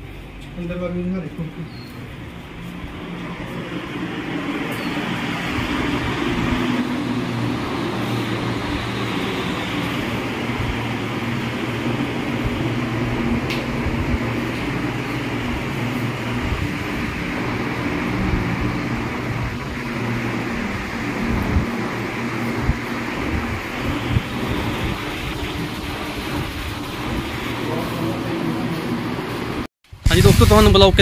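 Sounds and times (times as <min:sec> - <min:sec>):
machine hum with rushing noise: 0:00.0 - 0:31.0.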